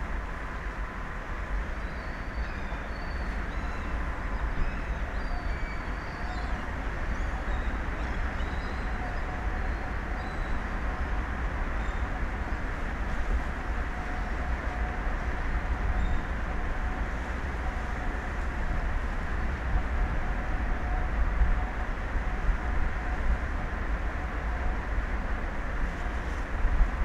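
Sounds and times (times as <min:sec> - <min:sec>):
rushing wind: 0:00.0 - 0:27.0.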